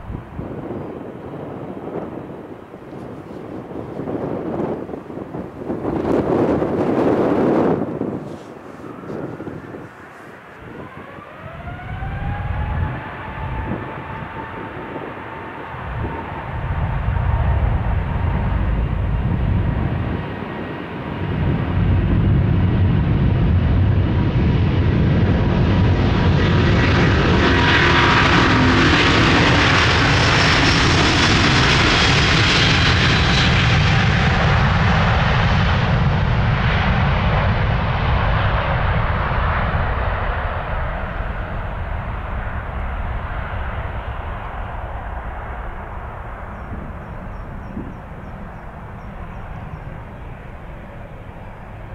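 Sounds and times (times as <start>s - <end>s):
jet engines roaring at takeoff: 0.0s - 51.9s.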